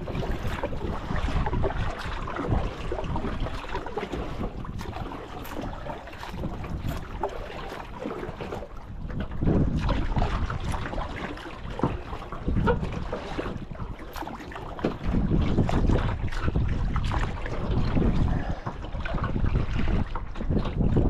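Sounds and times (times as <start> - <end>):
wind gusting across microphone: 0.0 - 21.0.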